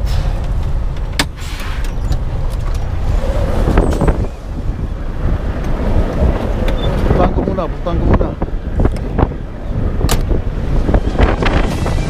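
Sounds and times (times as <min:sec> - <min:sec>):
storm wind buffeting microphone: 0:01.8 - 0:12.0.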